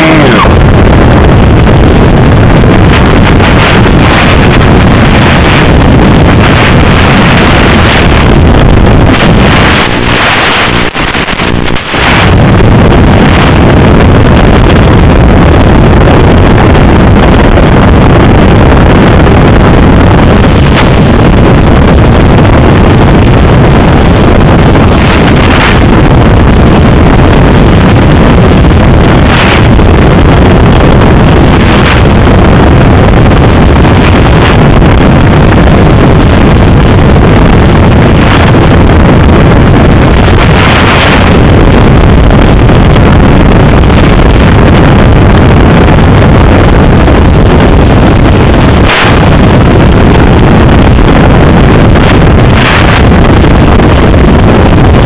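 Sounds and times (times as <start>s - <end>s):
loud steady rushing noise: 0.0s - 55.0s.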